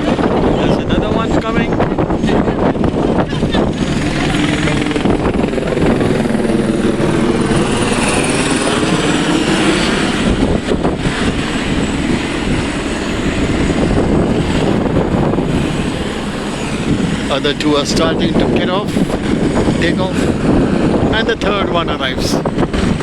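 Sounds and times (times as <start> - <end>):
helicopter rotor and engine: 0.0 - 23.0.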